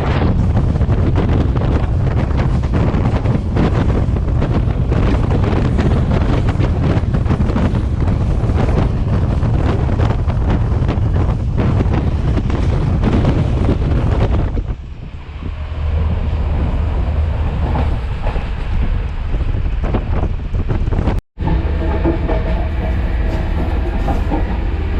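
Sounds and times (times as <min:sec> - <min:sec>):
train low rumble: 0:00.0 - 0:24.9
wind buffeting microphone: 0:00.0 - 0:24.9.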